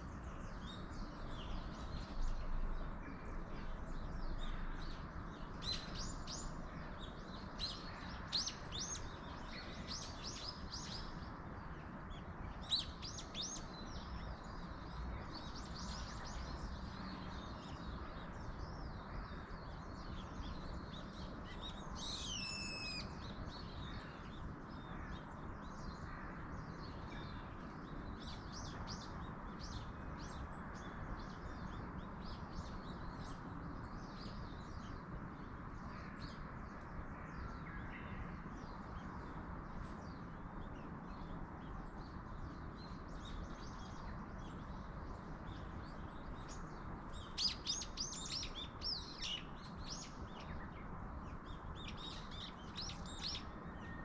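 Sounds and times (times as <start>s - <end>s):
small birds chirping: 0.0s - 54.0s
wind in trees: 0.0s - 54.0s.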